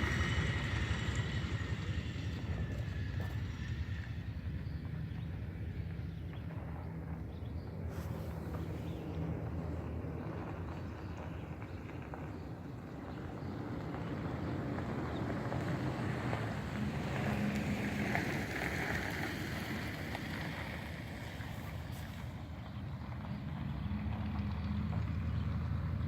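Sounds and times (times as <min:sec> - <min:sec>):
model plane engine droning: 0:00.0 - 0:26.0.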